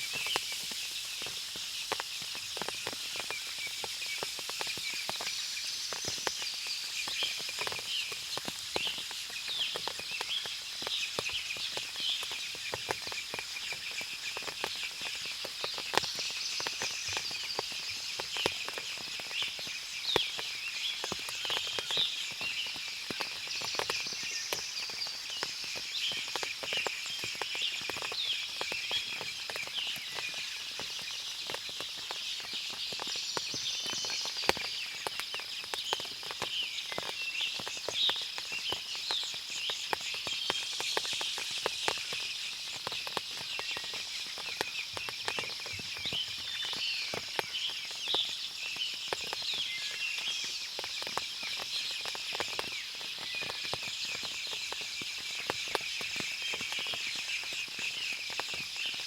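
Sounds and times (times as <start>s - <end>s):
birds and insects chirping: 0.0s - 59.0s
water drips: 0.0s - 59.0s.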